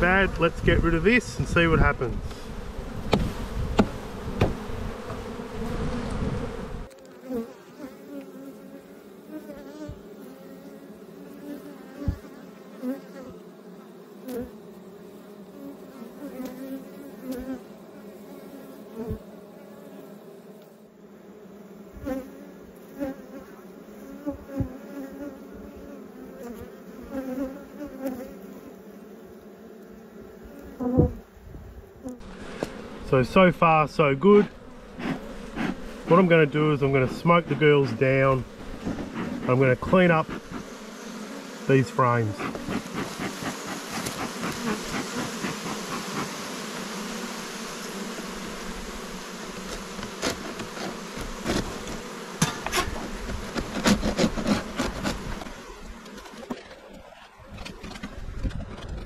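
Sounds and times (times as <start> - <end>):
hive handling noise: 0.0 - 17.6, 21.9 - 28.4, 29.3 - 59.0
honeybees buzzing: 0.0 - 59.0.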